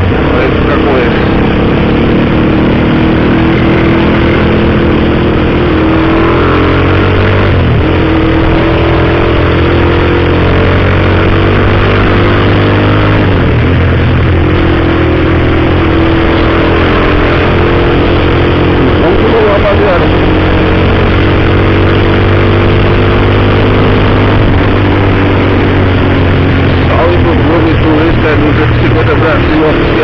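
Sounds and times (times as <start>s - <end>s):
loud motorcycle engine revving: 0.0s - 30.0s.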